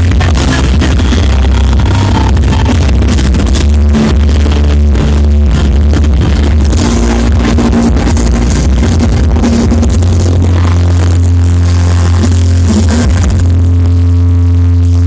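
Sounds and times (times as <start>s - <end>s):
electronic dance music with heavy bass: 0.0s - 15.0s.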